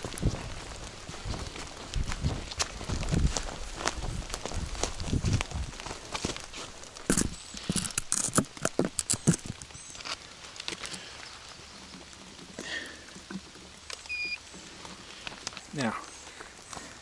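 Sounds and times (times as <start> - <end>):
footsteps in wet leaves: 0.0 - 17.0
leaves rustling: 0.0 - 17.0.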